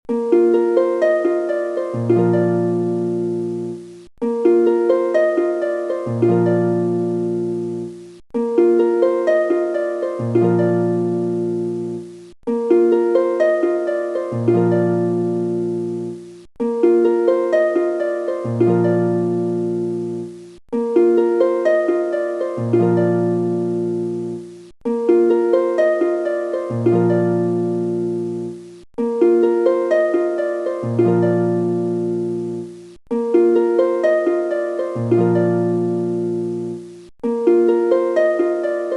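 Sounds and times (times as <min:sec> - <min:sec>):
plucked harp-like melody: 0:00.1 - 0:38.9.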